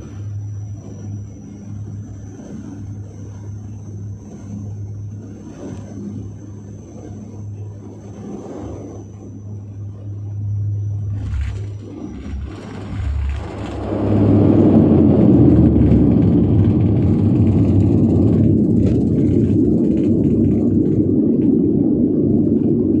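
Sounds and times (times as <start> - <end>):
aircraft engine rumble in cabin: 0.0 - 23.0.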